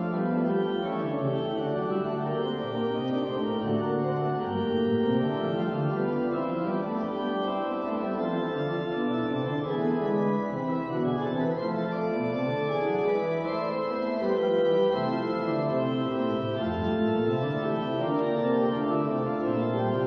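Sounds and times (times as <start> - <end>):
organ playing slow chords: 0.0 - 20.0.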